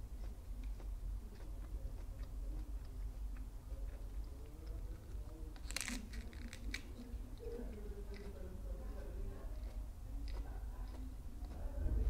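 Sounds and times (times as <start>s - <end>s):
low steady hum: 0.0s - 12.0s
soft chewing clicks: 0.0s - 12.0s.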